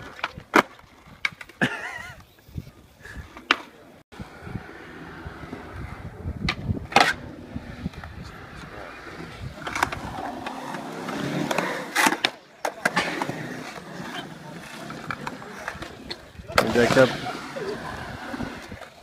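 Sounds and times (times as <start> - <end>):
skateboard popping and landing: 0.0 - 1.7, 5.4 - 19.0
skateboard wheels rolling: 0.0 - 19.0.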